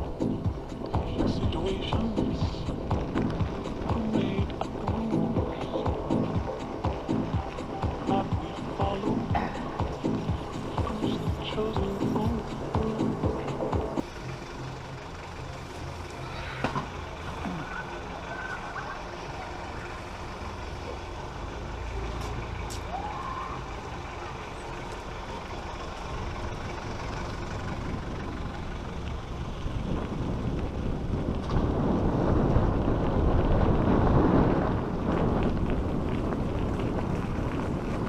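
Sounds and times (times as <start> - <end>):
heavy vehicle engine running: 0.0 - 38.0.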